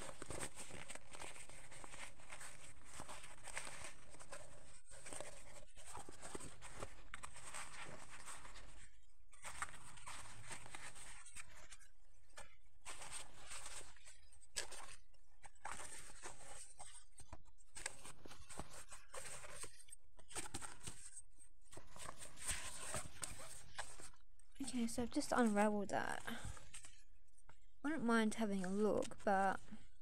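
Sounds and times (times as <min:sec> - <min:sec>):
plastic-covered canvas crinkling: 0:00.0 - 0:27.0.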